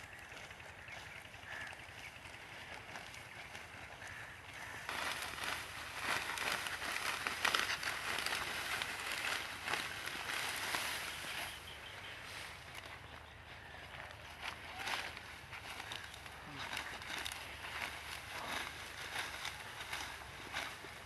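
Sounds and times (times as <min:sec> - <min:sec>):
dry stalks rustling and crackling: 0:00.0 - 0:21.0.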